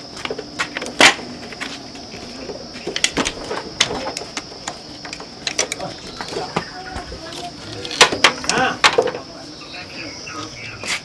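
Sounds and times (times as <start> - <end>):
high-pitched hum: 0.0 - 11.0.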